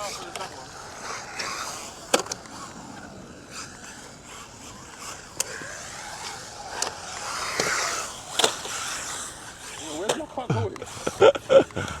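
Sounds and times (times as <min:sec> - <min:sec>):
electric motor whining: 0:00.0 - 0:10.1
tyres scraping concrete: 0:00.0 - 0:12.0.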